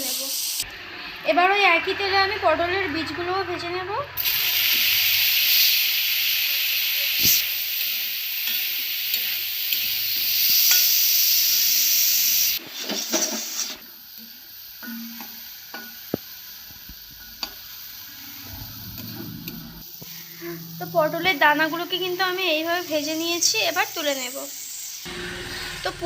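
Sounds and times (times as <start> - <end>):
seeds sizzling in hot oil: 0.0 - 1.2, 4.2 - 26.0.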